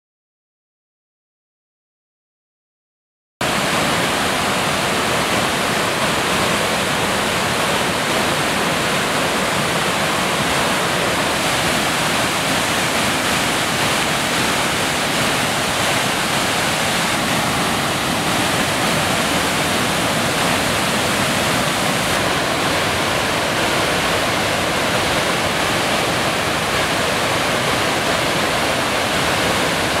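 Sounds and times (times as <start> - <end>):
waterfall rushing: 3.4 - 30.0.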